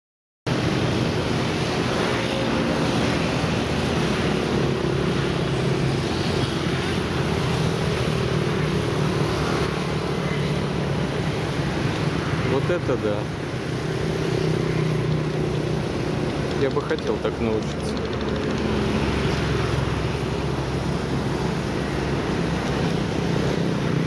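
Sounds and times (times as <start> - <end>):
water noise: 0.5 - 24.0.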